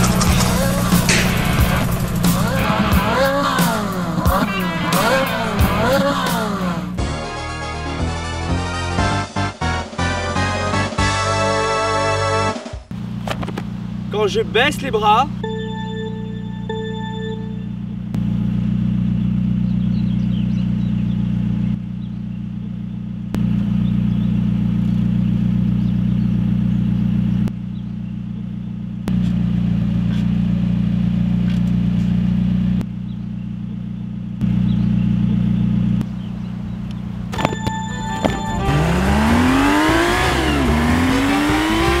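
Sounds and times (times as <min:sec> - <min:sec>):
engine idling: 0:00.0 - 0:07.1, 0:12.8 - 0:41.6.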